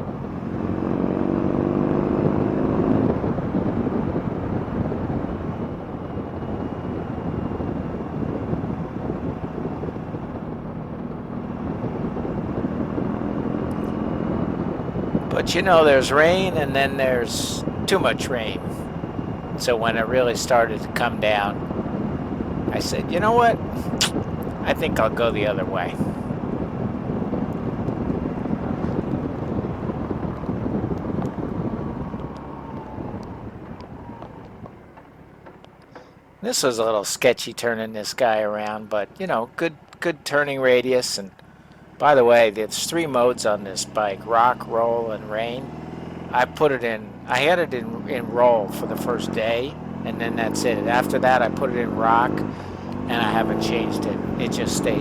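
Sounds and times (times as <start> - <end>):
motorcycle engine running: 0.0 - 36.4, 41.3 - 55.0
wind and road noise: 0.0 - 55.0.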